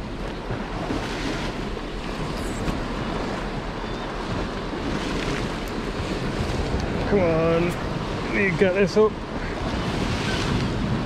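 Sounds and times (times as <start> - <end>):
sea washing against rocks: 0.0 - 11.0
wind buffeting microphone: 0.0 - 11.0.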